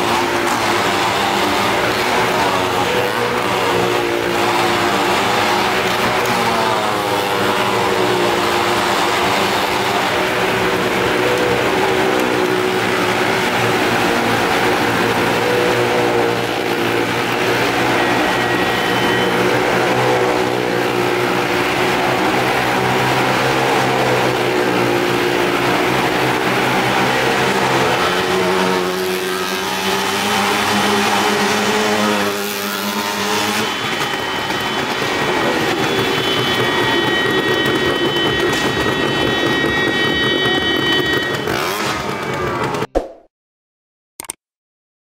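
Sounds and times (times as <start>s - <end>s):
car and motorcycle engines running: 0.0s - 42.9s.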